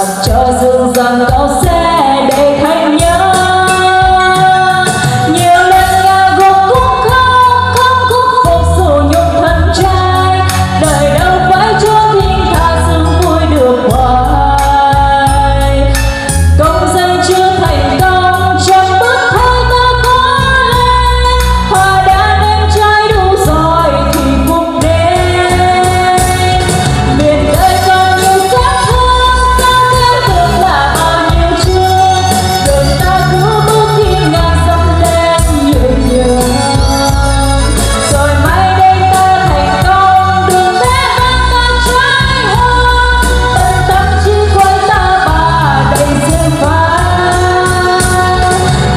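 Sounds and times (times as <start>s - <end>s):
karaoke backing track with bass beat: 0.0s - 48.9s
woman singing into a microphone: 0.0s - 48.9s.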